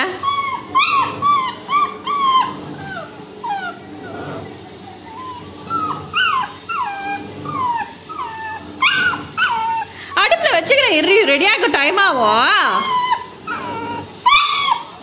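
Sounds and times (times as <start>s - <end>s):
puppy whining: 0.0s - 15.0s.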